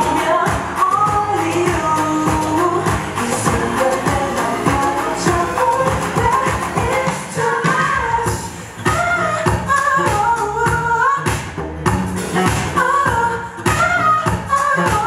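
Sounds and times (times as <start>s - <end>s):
pop song with singing over beat: 0.0s - 15.0s.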